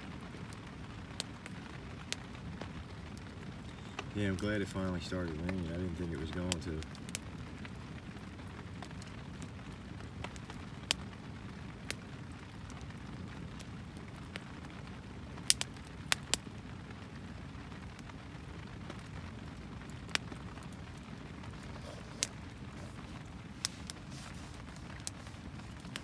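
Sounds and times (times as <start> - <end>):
fire popping: 0.0 - 26.0
hard rain on plastic sheeting: 0.0 - 26.0
wood fire burning: 0.0 - 26.0.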